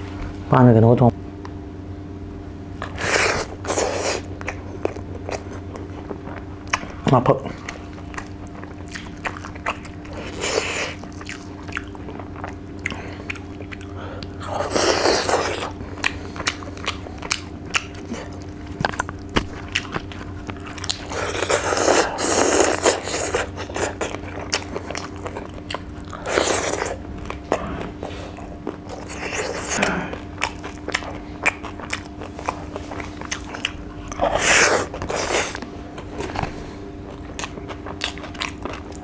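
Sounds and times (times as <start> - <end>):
faint steady hum: 0.0 - 39.0
wet chewing and lip smacking: 2.8 - 39.0.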